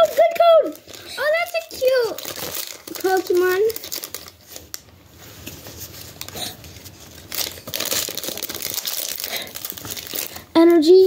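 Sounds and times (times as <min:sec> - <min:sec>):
trading cards rustling: 0:00.0 - 0:11.0.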